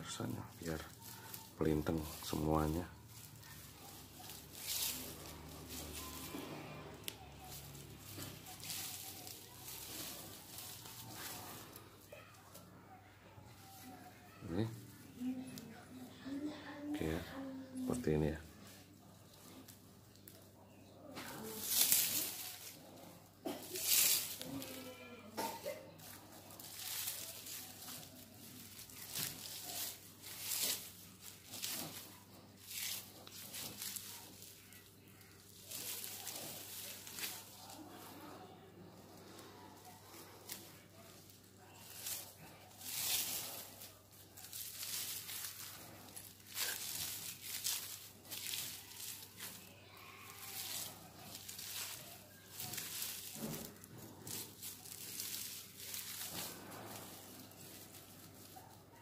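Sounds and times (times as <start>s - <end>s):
dry fibres rustling and crinkling: 0.0s - 59.0s.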